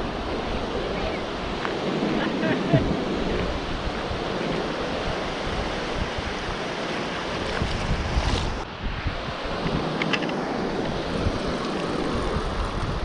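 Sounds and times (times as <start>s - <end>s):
small surf breaking on sand: 0.0s - 13.0s
wind buffeting microphone: 0.0s - 13.0s.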